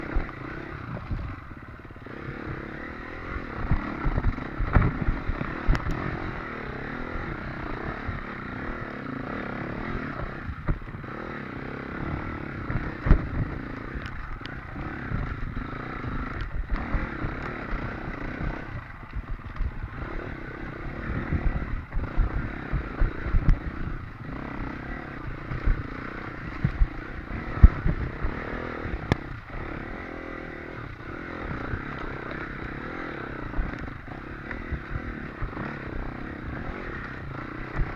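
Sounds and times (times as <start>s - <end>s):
dirt bike engine revving: 0.0s - 37.9s
knocks and clatter over rough ground: 0.0s - 37.9s.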